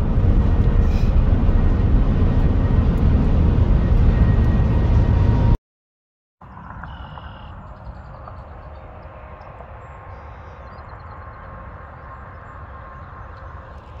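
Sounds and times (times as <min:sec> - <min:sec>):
distant highway traffic hum: 0:00.0 - 0:05.6, 0:06.4 - 0:14.0.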